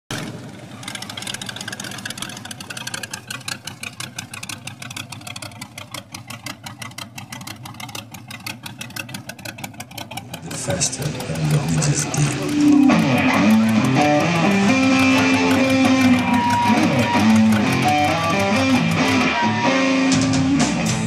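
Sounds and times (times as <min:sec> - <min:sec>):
car engine idling: 0:00.1 - 0:21.0.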